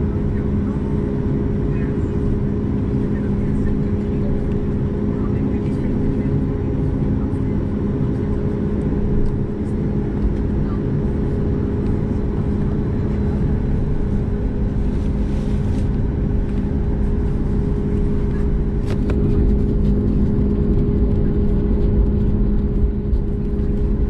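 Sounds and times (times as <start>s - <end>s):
aircraft engines idling hum: 0.0s - 24.0s.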